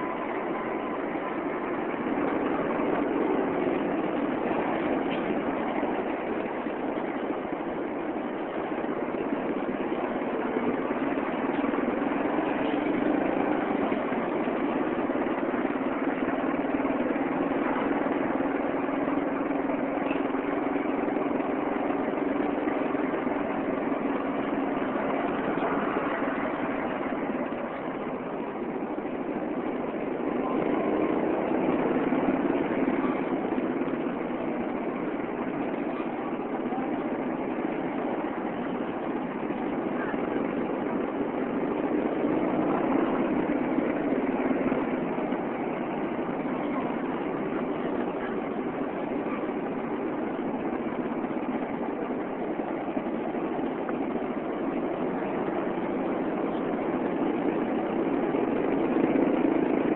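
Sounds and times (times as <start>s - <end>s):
road noise: 0.0s - 59.9s
vehicle engine humming: 0.0s - 59.9s.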